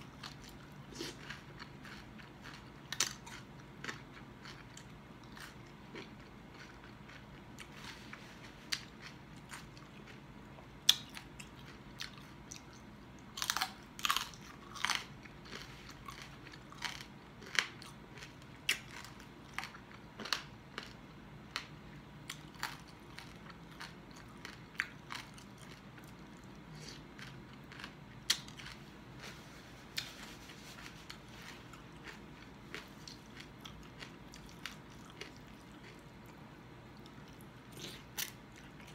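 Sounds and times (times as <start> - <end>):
person chewing crunchy food: 0.0 - 38.9.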